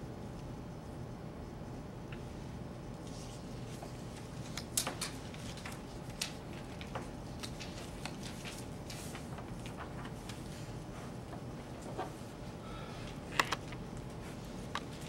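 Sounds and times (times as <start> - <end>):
low room tone hum: 0.0 - 15.0.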